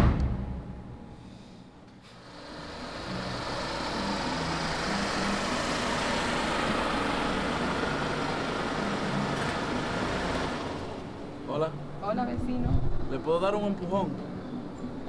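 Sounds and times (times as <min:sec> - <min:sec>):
van engine idling: 0:02.0 - 0:15.0.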